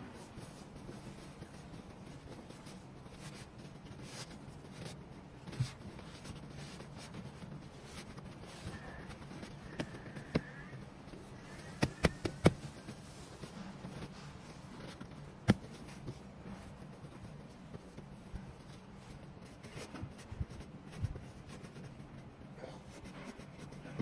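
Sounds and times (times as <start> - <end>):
fabric rustling and rubbing: 0.0 - 24.0.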